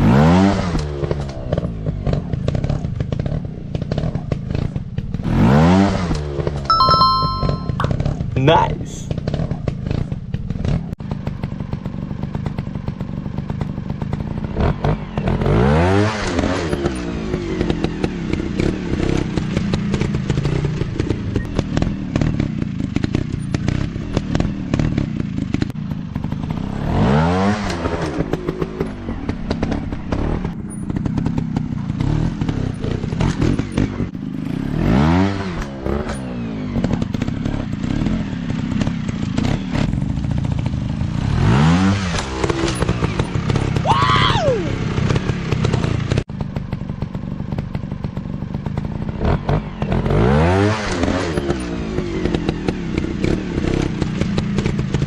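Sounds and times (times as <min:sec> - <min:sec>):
motorcycle engine revving: 0:00.0 - 0:06.6, 0:09.1 - 0:55.0.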